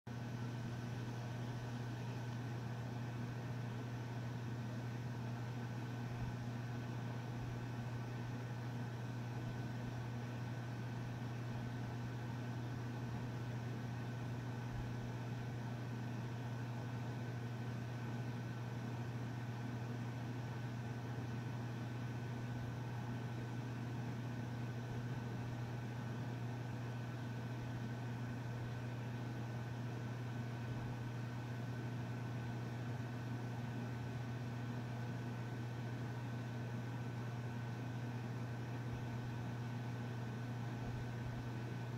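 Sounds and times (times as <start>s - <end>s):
low mechanical hum: 0.1s - 41.9s.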